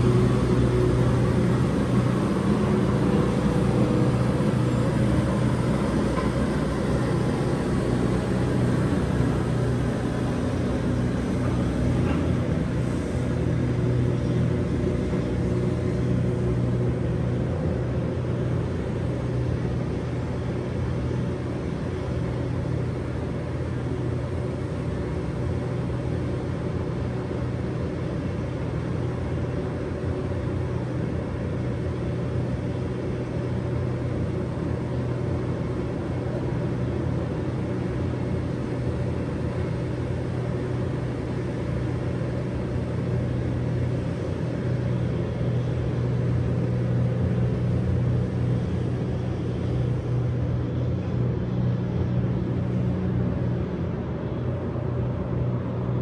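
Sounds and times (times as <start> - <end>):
low engine hum: 0.0 - 56.0.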